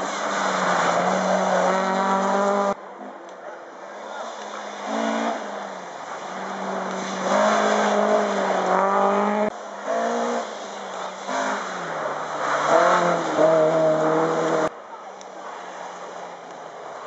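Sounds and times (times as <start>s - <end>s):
rally car engines revving: 0.0s - 14.8s.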